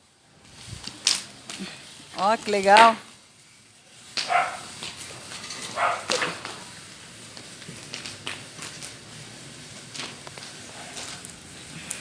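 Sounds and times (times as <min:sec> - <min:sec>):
wood bonfire crackling: 0:00.0 - 0:12.0
fire popping sharply: 0:00.5 - 0:12.0.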